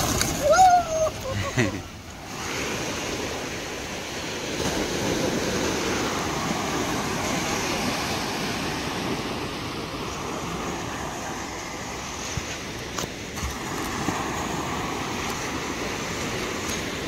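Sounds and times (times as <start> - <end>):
waves breaking on sandy shore: 0.0 - 17.0.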